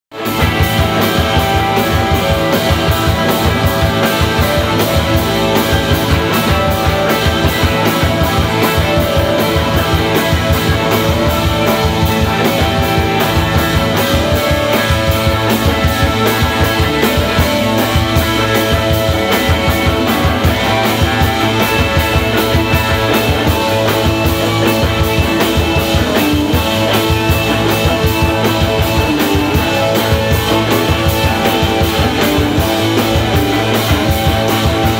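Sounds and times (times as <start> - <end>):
electric guitars: 0.1 - 34.9
steady drum beat: 0.1 - 34.9.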